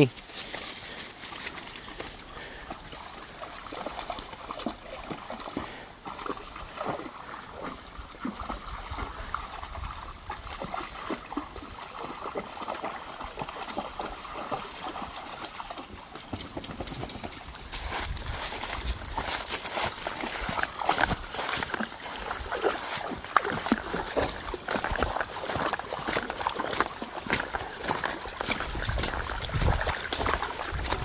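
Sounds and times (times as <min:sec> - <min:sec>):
footsteps splashing in water: 0:00.0 - 0:31.0
running water: 0:00.0 - 0:31.0.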